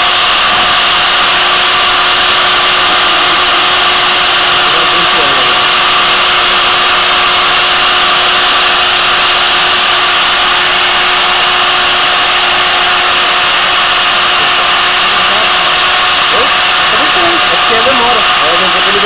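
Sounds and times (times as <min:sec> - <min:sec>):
drill motor whining: 0:00.0 - 0:19.0.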